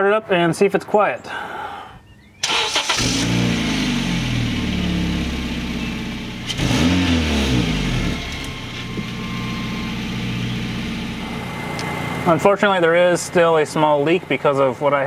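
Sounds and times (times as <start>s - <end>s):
car engine revving and idling: 2.7s - 15.0s.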